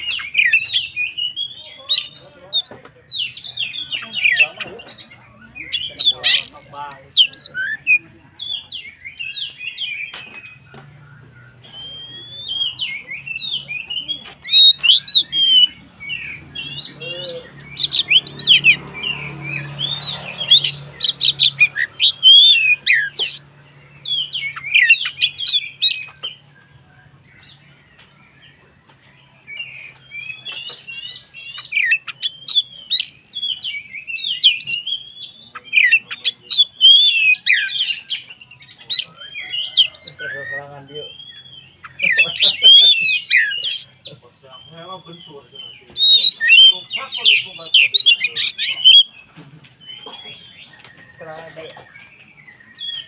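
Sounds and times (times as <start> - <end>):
songbird singing: 0.0 - 53.0.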